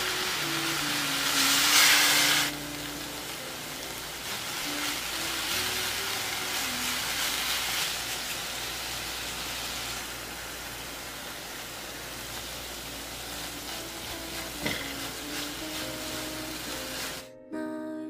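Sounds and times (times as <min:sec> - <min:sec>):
fish sizzling in a pan: 0:00.0 - 0:17.3.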